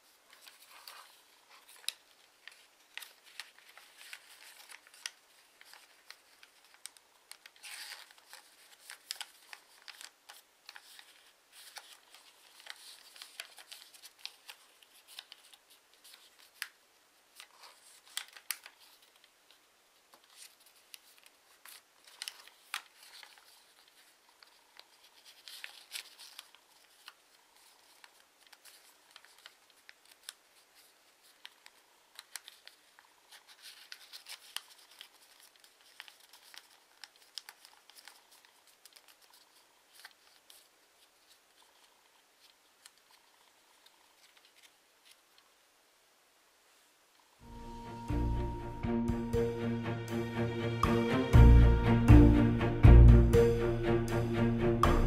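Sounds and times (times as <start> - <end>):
paper folding and creasing: 0.0 - 45.6.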